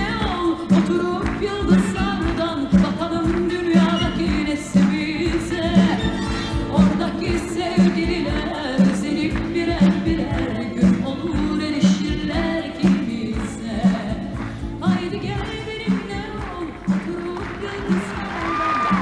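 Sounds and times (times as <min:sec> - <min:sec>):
pop band playing: 0:00.0 - 0:19.0
woman singing into microphone: 0:00.0 - 0:19.0.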